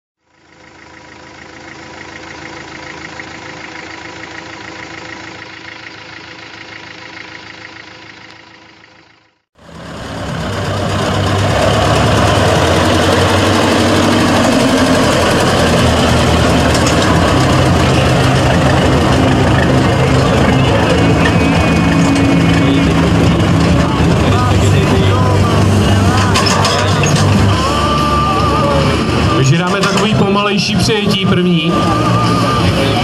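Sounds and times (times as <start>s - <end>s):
monster truck engine running: 0.2s - 33.0s
mechanical drone with pulsing whine: 0.6s - 33.0s.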